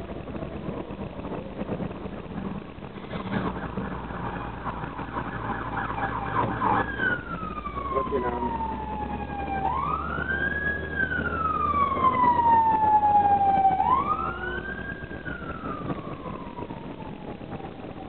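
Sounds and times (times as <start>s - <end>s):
bus engine hum: 0.0s - 18.0s
siren wailing: 3.2s - 18.0s.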